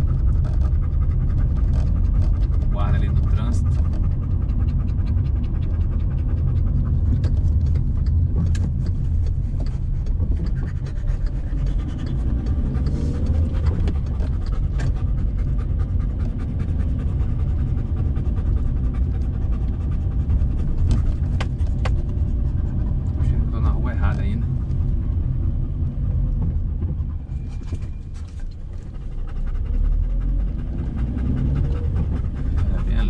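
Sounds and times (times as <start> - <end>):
car engine and road noise: 0.0 - 33.0
dog panting: 0.0 - 33.0.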